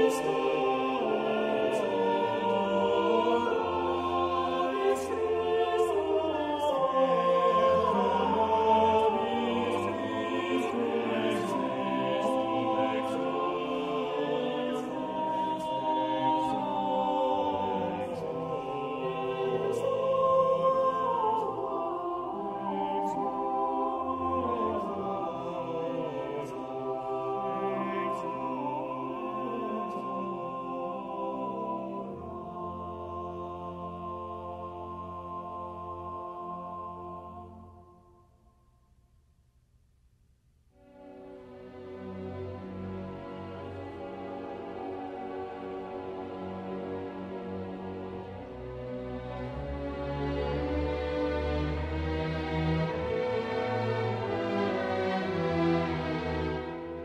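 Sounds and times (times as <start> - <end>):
choir singing slow sustained lines: 0.0 - 39.2, 40.7 - 57.0.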